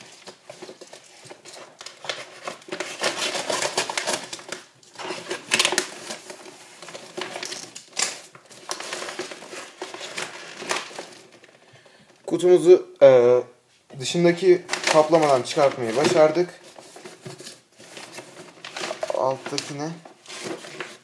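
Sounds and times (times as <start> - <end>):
wrapping rustling and crinkling: 0.0 - 12.3, 14.0 - 21.0.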